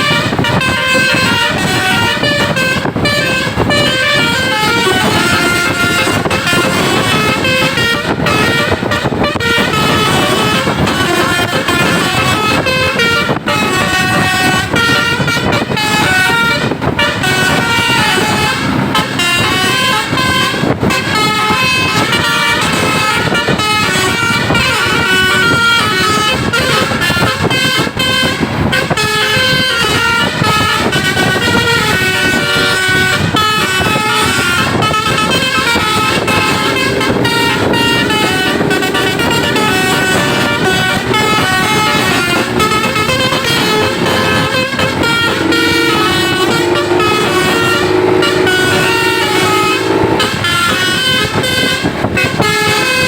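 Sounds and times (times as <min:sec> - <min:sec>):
musical bus horn melody: 0:00.0 - 0:53.0
steady vehicle noise: 0:00.0 - 0:53.0.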